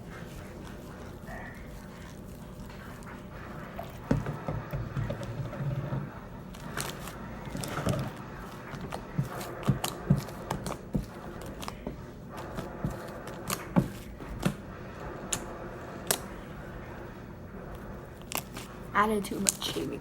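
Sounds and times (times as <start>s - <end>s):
slime squelching and popping: 0.0s - 16.5s.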